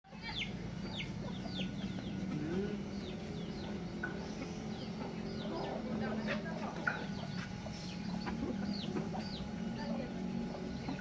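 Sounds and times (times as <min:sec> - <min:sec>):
chickens clucking: 0:00.1 - 0:11.0
steady low hum: 0:00.1 - 0:11.0.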